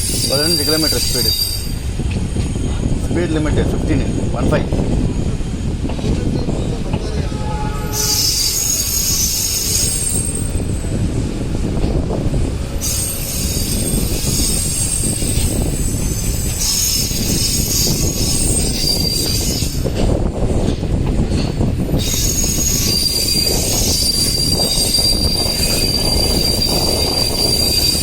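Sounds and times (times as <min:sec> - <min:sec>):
train rumbling: 0:00.0 - 0:28.0
train wheels squealing on rails: 0:00.0 - 0:28.0.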